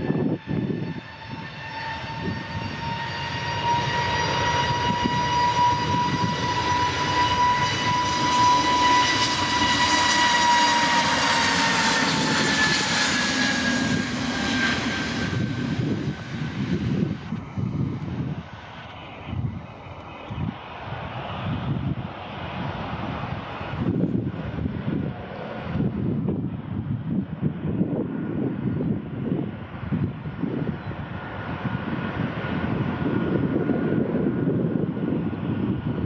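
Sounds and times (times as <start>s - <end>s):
jet engines whining at takeoff: 0.0s - 36.0s.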